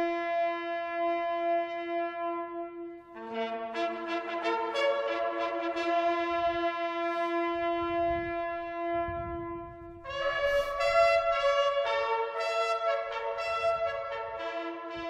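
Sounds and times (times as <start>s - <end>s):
slow brass horn music: 0.0s - 15.0s.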